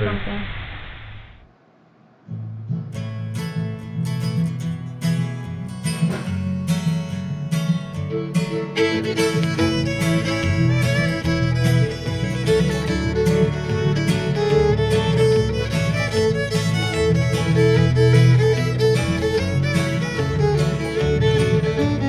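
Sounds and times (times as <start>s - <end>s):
fiddle and guitar music: 2.7s - 22.0s.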